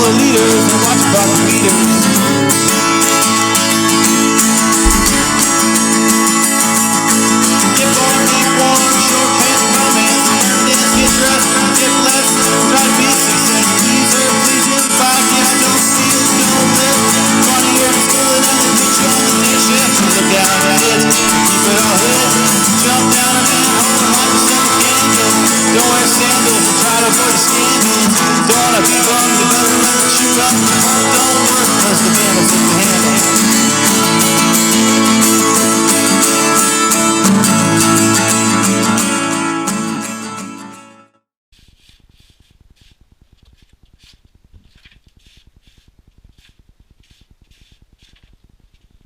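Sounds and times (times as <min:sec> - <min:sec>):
background music: 0:00.0 - 0:41.2
guitar playing: 0:00.0 - 0:41.2.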